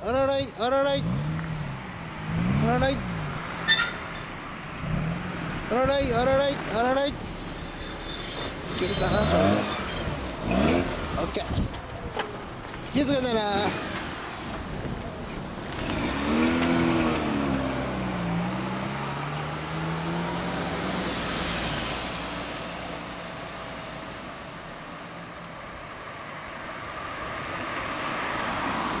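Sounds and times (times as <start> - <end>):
traffic: 0.0 - 29.0
rotary car engine pulling away: 0.8 - 25.4.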